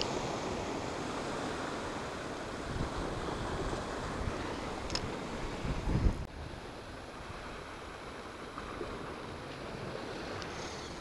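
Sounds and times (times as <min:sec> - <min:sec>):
waves breaking over rocks: 0:00.0 - 0:11.0
wind buffeting microphone: 0:00.0 - 0:11.0.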